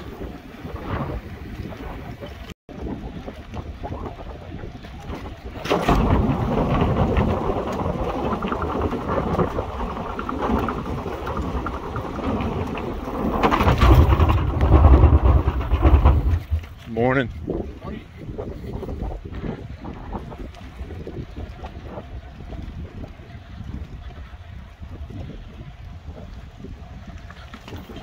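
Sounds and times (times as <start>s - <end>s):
bicycle tyre rumble: 0.0s - 28.0s
wind buffeting microphone: 0.0s - 28.0s.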